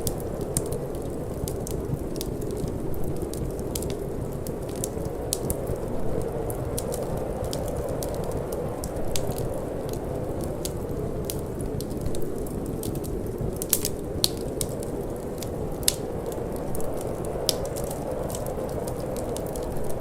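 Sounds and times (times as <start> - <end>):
low rush of wind: 0.0 - 20.0
wood fire crackling and popping: 0.0 - 20.0.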